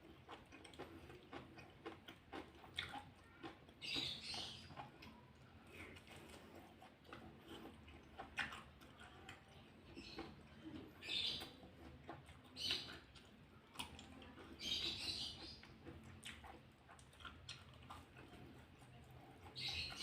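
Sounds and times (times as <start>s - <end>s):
chewing with lip smacks: 0.0s - 20.0s.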